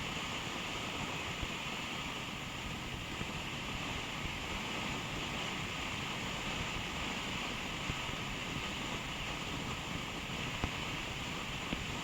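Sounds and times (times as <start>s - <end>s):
motorcycle road and engine noise: 0.0s - 12.0s
wind rushing over microphone: 0.0s - 12.0s.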